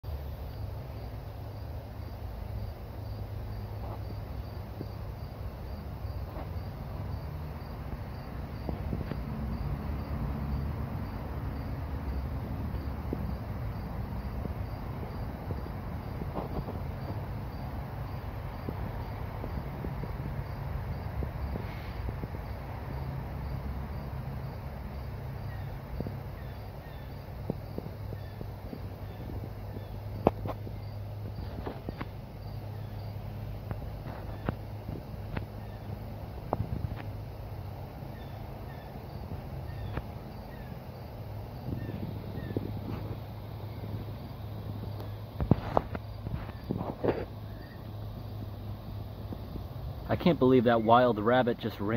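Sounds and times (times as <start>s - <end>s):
insect chirping: 0.1s - 51.9s.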